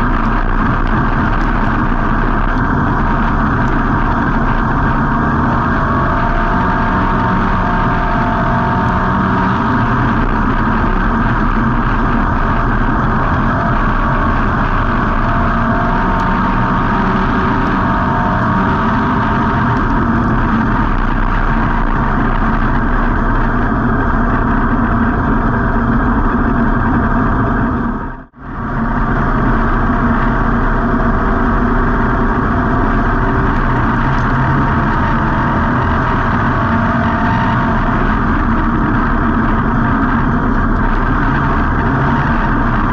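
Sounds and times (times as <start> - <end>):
race car engine running: 0.0 - 42.9.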